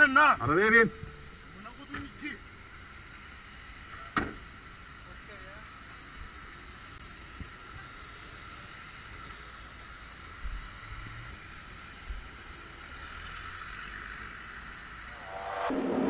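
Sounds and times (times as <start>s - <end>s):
background traffic on wet road: 0.0s - 15.2s.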